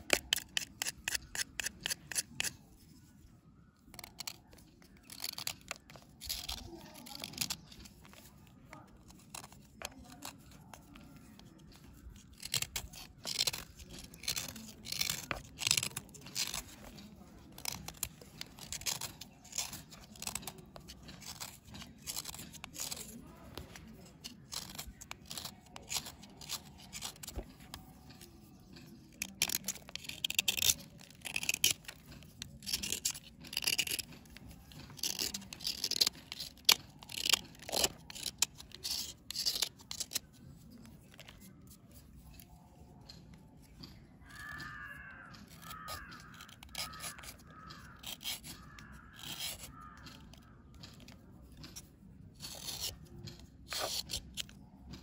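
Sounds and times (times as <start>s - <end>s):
knife scraping crust: 0.0s - 55.0s.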